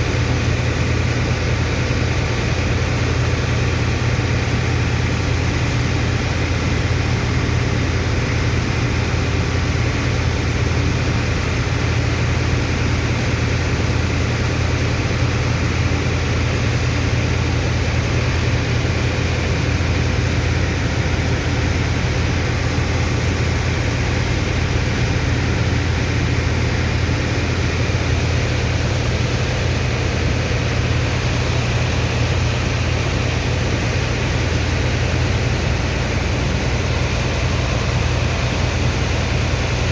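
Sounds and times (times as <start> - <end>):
dredger pump engine humming: 0.0 - 39.9.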